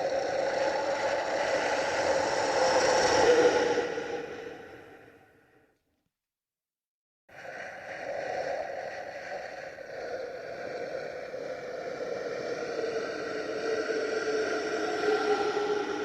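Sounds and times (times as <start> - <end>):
ghostly airy exhale: 0.0 - 5.5, 7.3 - 16.0.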